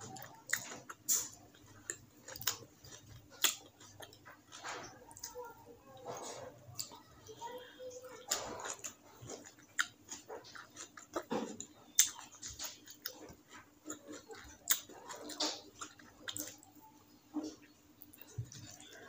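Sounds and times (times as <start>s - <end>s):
wet chewing and lip-smacking: 0.0s - 5.4s, 8.2s - 19.0s.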